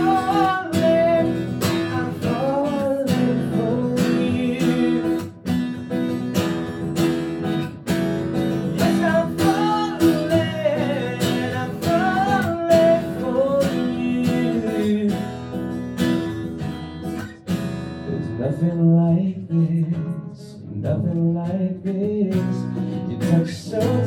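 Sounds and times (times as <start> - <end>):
man singing: 0.0 - 6.0, 8.3 - 15.8, 18.0 - 24.0
strummed acoustic guitar: 0.0 - 24.0.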